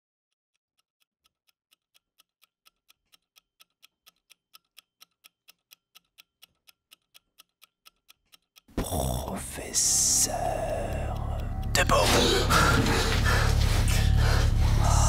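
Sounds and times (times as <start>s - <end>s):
clock ticking: 0.5s - 15.0s.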